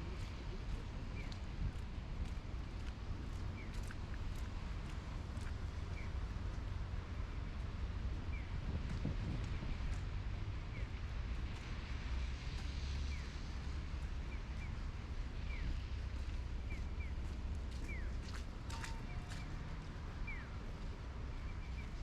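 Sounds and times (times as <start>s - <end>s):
city traffic: 0.0s - 22.0s
wind: 0.0s - 22.0s.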